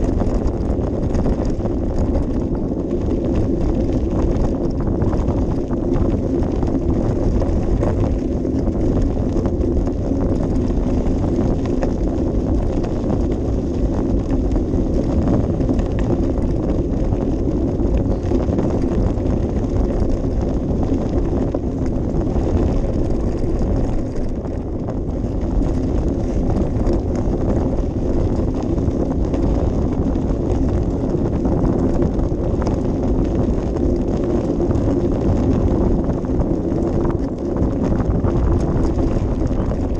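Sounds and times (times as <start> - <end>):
bicycle rolling and rattling: 0.0 - 39.9
wind buffeting microphone: 0.0 - 39.9.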